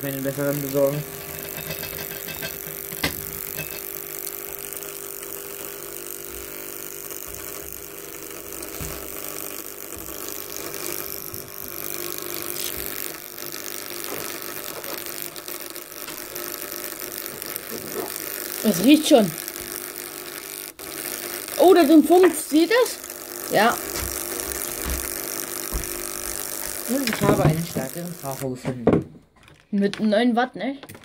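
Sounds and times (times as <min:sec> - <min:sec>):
electrical hum with crackly hiss: 0:00.0 - 0:30.8.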